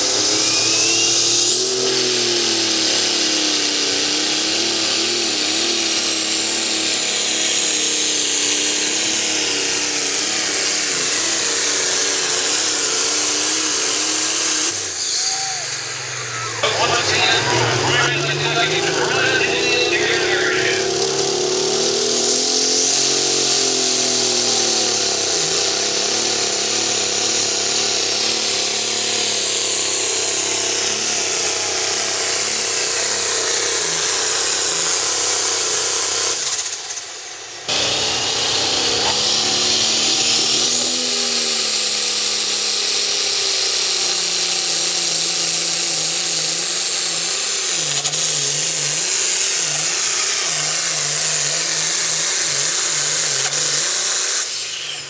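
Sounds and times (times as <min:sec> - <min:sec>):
high turbo whine: 0:00.0 - 0:55.0
tractor diesel engines at full load: 0:00.0 - 0:55.0.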